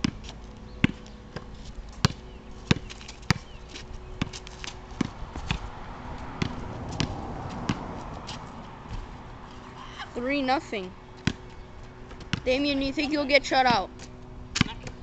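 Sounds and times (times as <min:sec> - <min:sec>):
basketball bouncing on asphalt: 0:00.0 - 0:09.7, 0:11.0 - 0:15.0.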